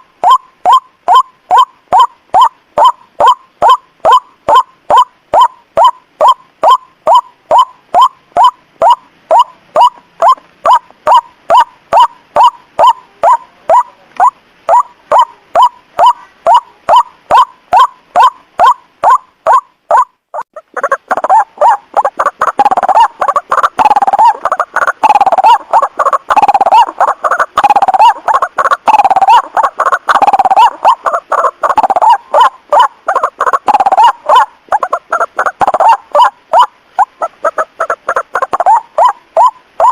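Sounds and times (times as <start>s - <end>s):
waterhen calls: 0.0s - 39.9s.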